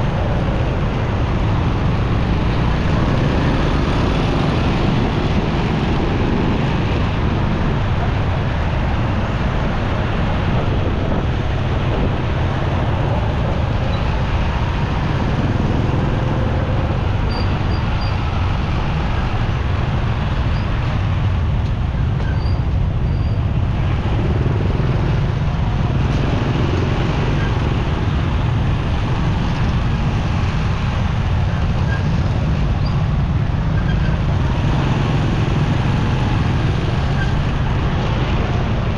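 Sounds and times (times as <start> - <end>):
road noise: 0.0 - 38.9
traffic noise: 0.0 - 38.9.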